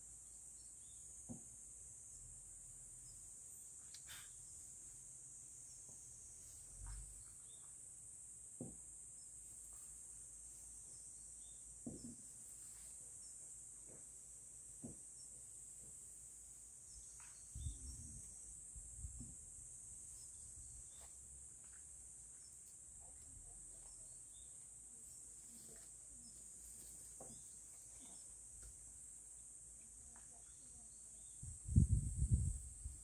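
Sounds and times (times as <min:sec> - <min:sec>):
insect chorus: 0:00.0 - 0:33.0.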